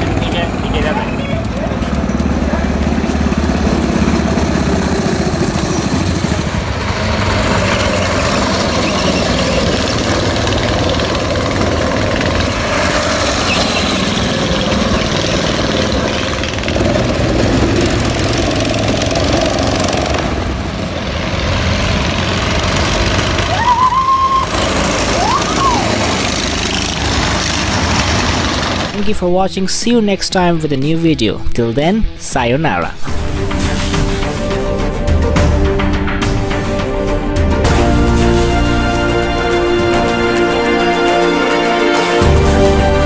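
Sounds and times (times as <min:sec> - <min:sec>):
go-kart engines running: 0:00.0 - 0:43.0.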